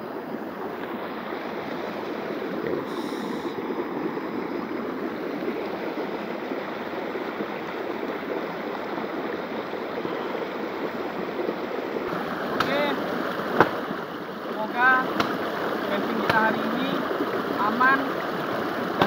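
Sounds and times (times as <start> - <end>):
stream running over rock: 0.0 - 19.0.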